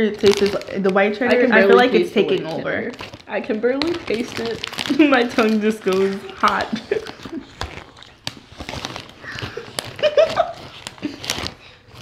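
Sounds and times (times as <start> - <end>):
popcorn bag crinkling: 0.0 - 12.0
popcorn crunching: 0.0 - 12.0.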